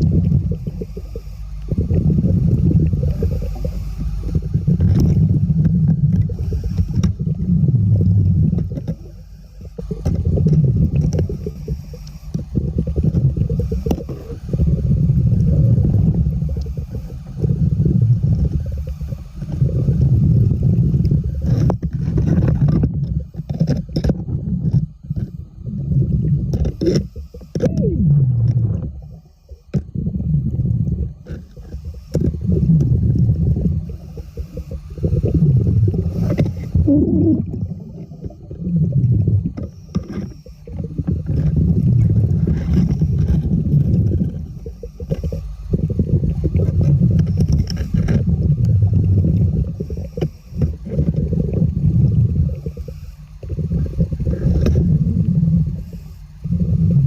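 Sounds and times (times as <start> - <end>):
underwater air bubbles gurgling: 0.0 - 57.0.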